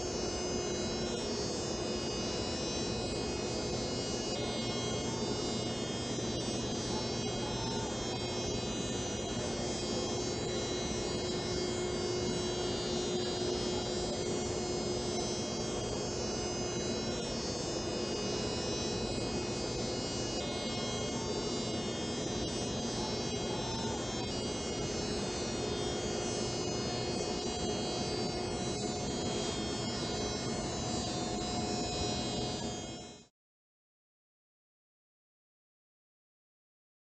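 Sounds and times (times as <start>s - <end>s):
machine electrical hum and whine: 0.0s - 33.3s.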